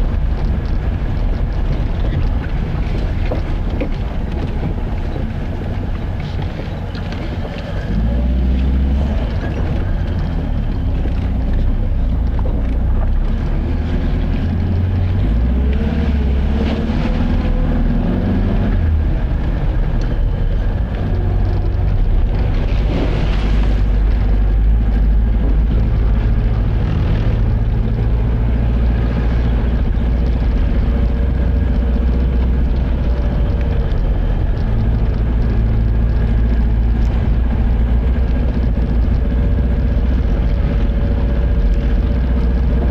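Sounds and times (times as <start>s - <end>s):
car engine: 0.0s - 42.9s
road rumble: 0.0s - 42.9s.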